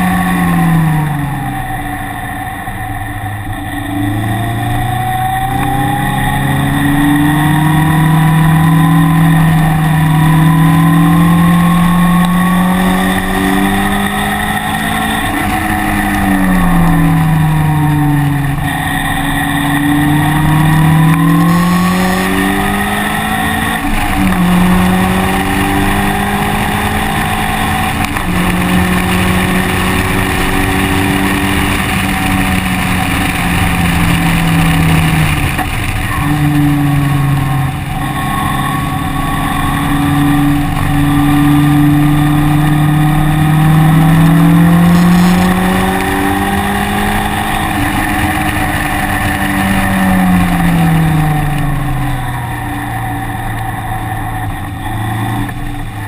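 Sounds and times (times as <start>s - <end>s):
engine revving and shifting gear: 0.0s - 56.0s
wind and road noise: 0.0s - 56.0s.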